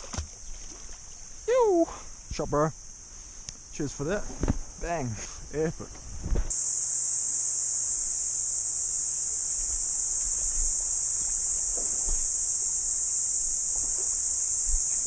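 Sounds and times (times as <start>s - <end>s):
cicadas chorusing: 0.0s - 15.0s.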